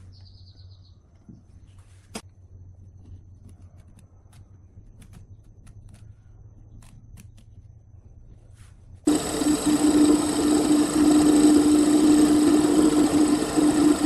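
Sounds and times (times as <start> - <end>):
steady low hum: 2.3 - 14.0.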